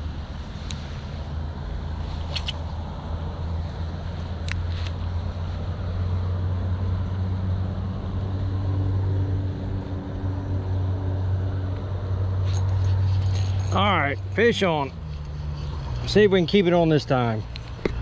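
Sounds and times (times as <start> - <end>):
highway traffic rumble: 0.0 - 18.0
passing vehicle engine: 0.0 - 18.0.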